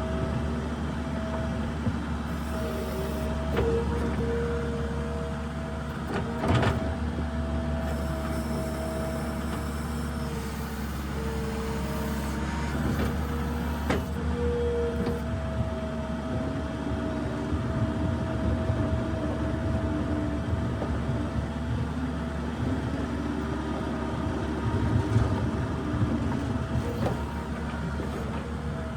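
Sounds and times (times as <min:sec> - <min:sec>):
diesel engine running: 0:00.0 - 0:16.0, 0:17.3 - 0:28.9.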